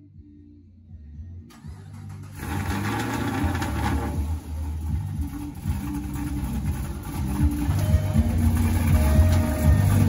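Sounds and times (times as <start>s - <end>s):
bass-heavy music: 0.0s - 10.0s
car engine running: 1.5s - 10.0s.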